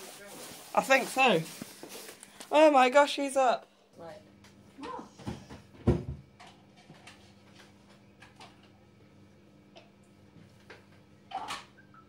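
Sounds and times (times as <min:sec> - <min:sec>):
faint hum: 0:02.1 - 0:12.0.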